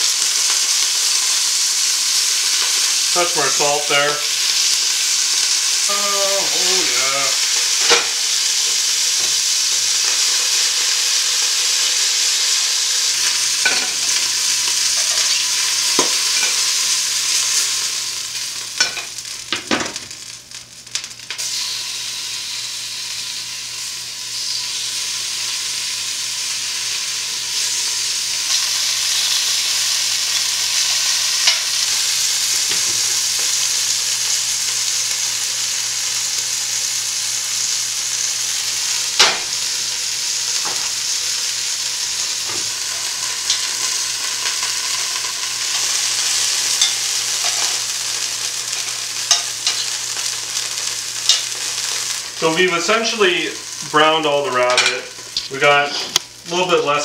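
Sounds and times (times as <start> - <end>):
meat sizzling in hot oil: 0.0 - 57.0.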